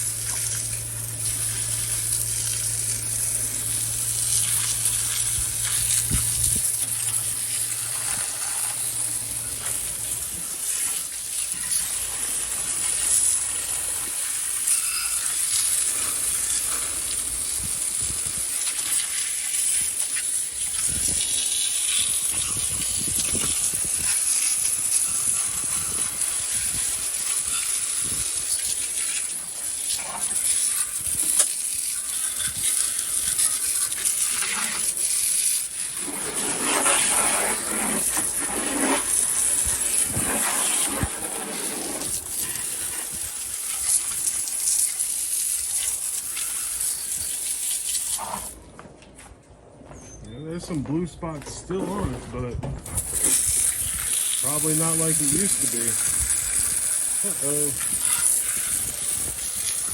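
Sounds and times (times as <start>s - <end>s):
hose spraying water: 0.0s - 48.6s, 52.8s - 59.9s.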